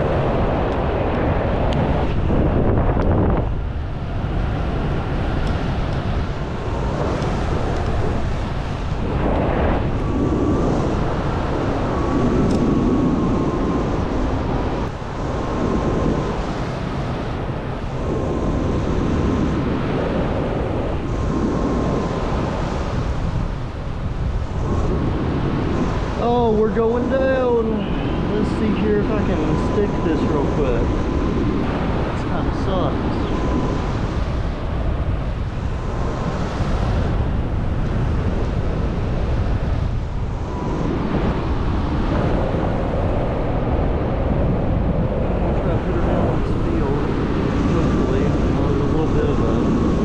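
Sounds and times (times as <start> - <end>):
wind rushing over microphone: 0.0 - 50.0.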